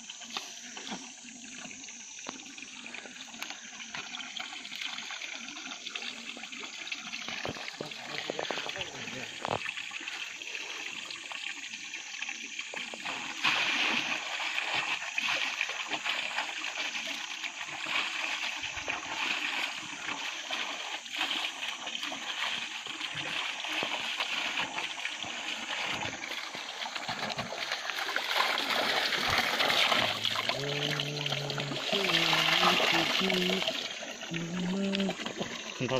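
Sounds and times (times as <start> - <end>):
water running from hose: 0.0 - 35.9.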